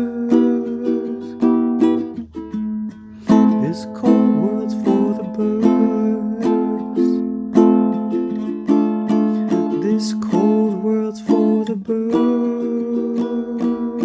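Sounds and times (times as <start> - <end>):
strummed acoustic string chords: 0.0 - 14.0.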